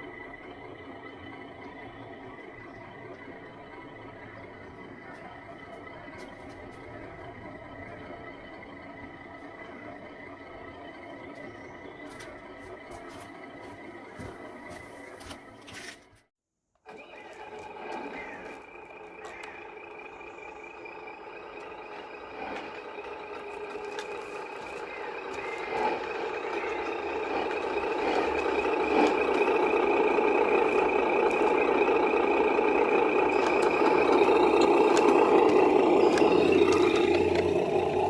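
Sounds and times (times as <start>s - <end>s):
toy truck motor running: 0.0s - 16.1s, 16.8s - 38.0s.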